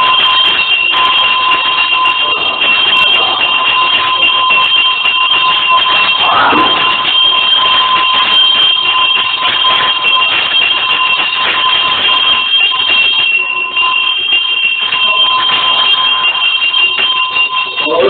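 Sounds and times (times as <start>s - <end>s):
bell ringing: 0.0s - 18.0s.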